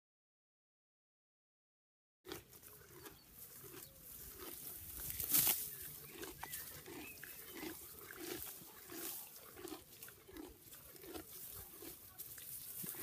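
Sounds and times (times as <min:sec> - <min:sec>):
donkey chewing grass: 0:02.3 - 0:13.0.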